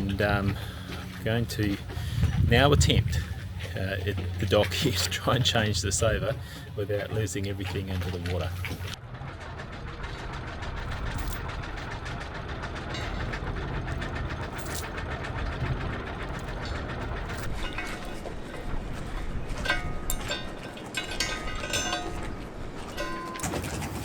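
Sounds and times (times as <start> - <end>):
engine idling with knocking: 0.0 - 24.0.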